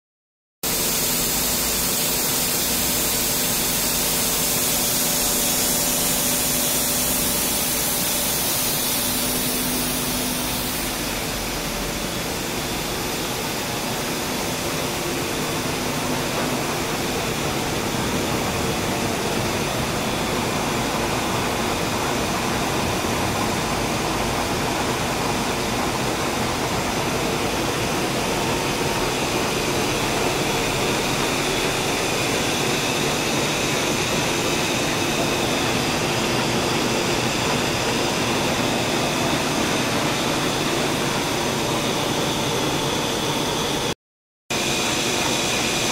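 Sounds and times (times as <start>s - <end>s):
industrial machinery hum: 0.6s - 45.9s
machinery rushing hiss: 0.7s - 43.9s.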